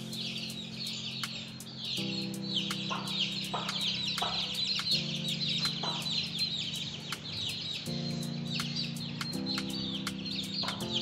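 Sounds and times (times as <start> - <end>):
background music with sustained chords: 0.0 - 11.0
chicks peeping: 0.0 - 11.0.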